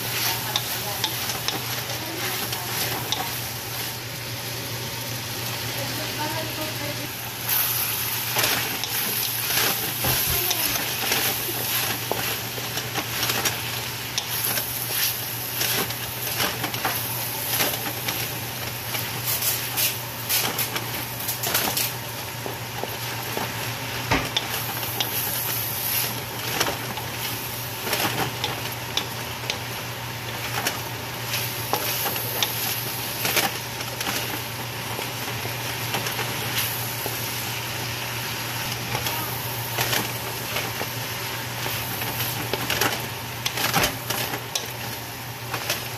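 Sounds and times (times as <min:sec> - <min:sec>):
food sizzling in a wok: 0:00.0 - 0:45.9.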